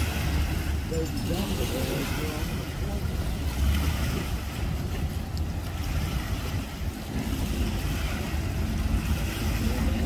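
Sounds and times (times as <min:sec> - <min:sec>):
waves lapping on concrete: 0:00.0 - 0:10.0
wind buffeting microphone: 0:00.0 - 0:10.0.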